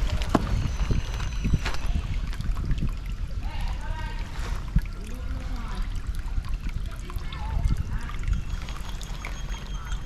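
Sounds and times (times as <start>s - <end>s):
steady low rumble: 0.0s - 8.9s
water trickling and running: 0.0s - 10.0s.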